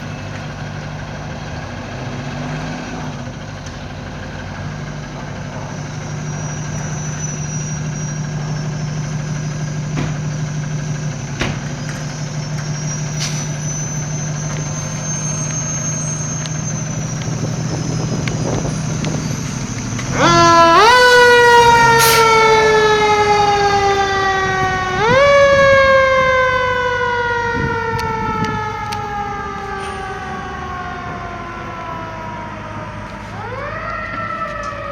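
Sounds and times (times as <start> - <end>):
fire engine motor running: 0.0 - 34.9
siren winding up and down: 5.7 - 34.9.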